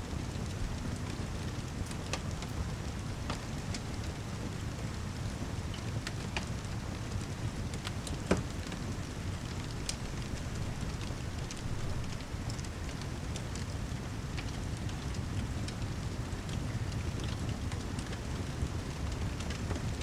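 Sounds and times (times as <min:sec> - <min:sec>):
steady rainfall: 0:00.0 - 0:20.0
wood fire crackling: 0:00.0 - 0:20.0.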